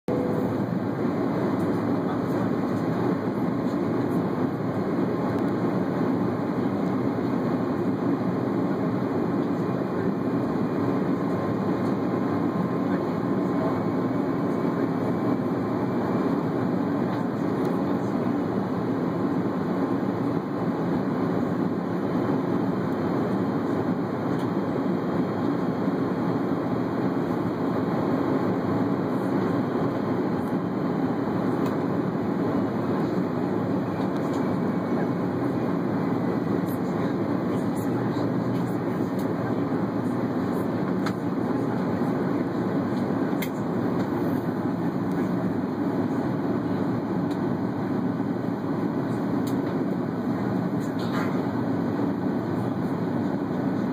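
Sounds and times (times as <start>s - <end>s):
airplane cabin engine rumble: 0.1s - 53.9s.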